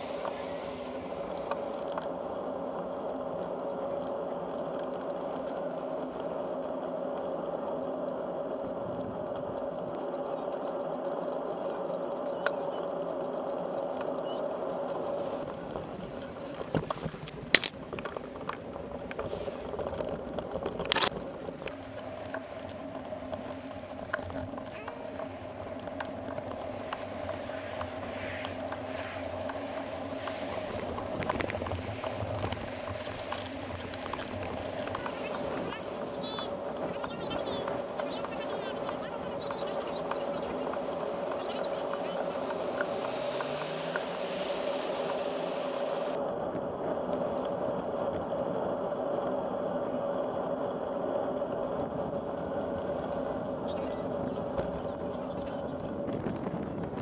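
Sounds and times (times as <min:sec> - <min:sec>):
bicycle tyres rolling: 0:00.0 - 0:57.0
constant hum: 0:00.0 - 0:57.0.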